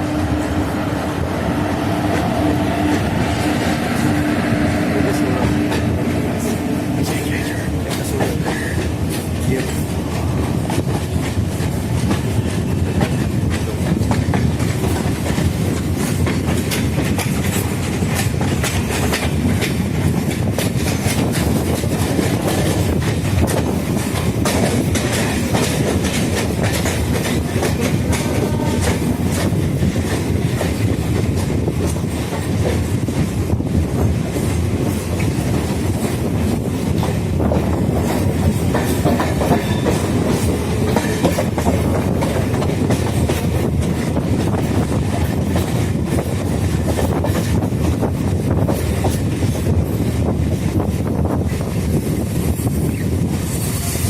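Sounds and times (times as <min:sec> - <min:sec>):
train rumble: 0:00.0 - 0:54.0
wheels clacking over rail joints: 0:01.9 - 0:50.8.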